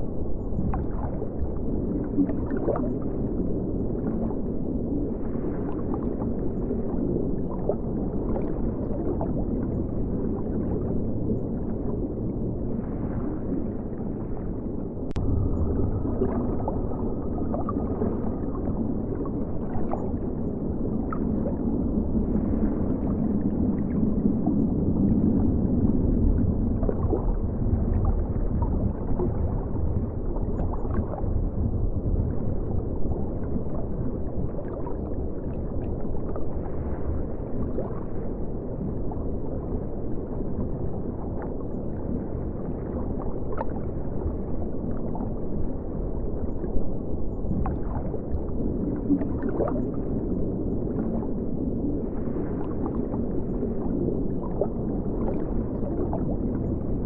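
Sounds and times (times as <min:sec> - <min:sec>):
muffled underwater river rumble: 0:00.0 - 0:57.0
water clicks and gurgles: 0:00.0 - 0:57.0.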